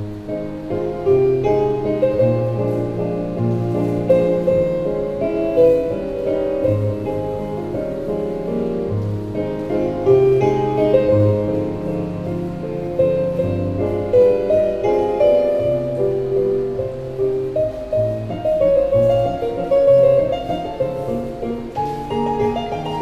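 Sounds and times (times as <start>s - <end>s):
piano playing flowing melody: 0.0s - 23.0s.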